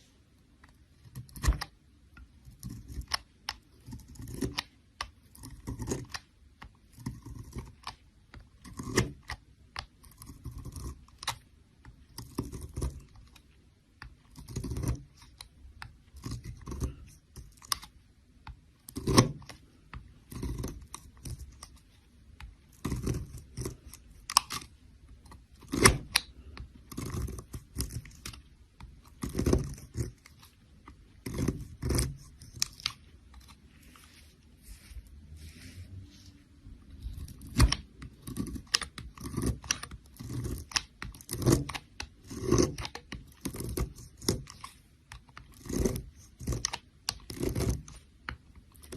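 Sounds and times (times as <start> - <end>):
knife cutting soap: 0.4 - 48.9.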